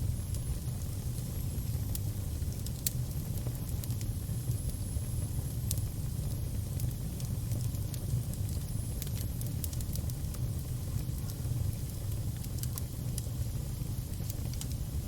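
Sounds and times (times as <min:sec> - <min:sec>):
fire burning with low rumble: 0:00.0 - 0:15.0
fire crackling and popping: 0:00.0 - 0:15.0.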